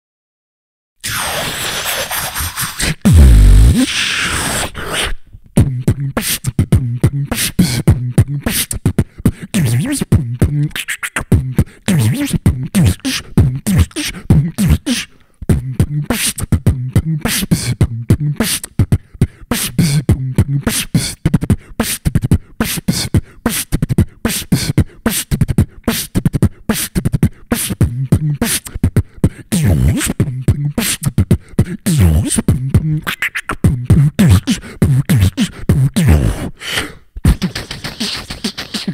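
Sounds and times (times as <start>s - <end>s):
beatboxing drum strokes: 1.0s - 38.9s.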